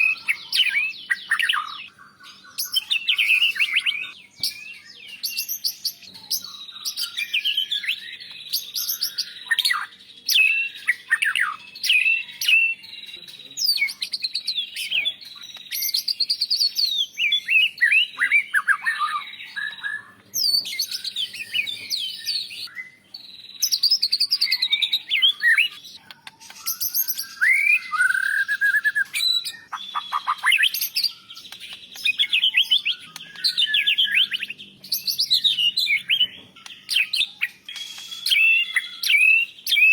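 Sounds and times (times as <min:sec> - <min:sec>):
songbird whistling and warbling: 0:00.0 - 0:39.9.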